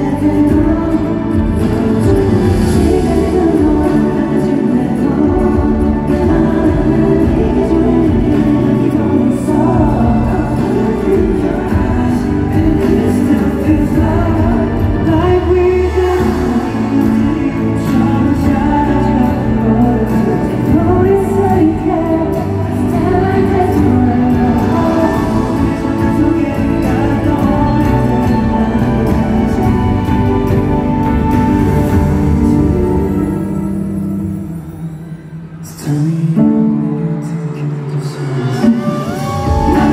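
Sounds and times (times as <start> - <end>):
men singing pop ballad: 0.0 - 34.8, 35.6 - 39.9
backing track over sound system: 0.0 - 39.9.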